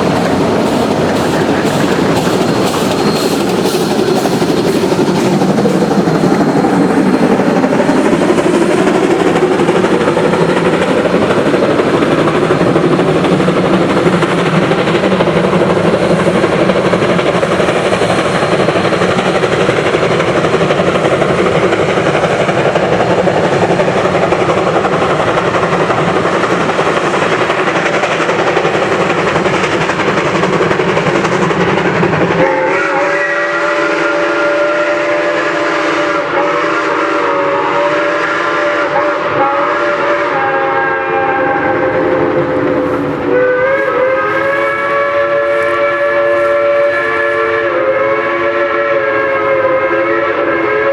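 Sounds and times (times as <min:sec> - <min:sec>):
steam locomotive chuffing: 0:00.0 - 0:50.9.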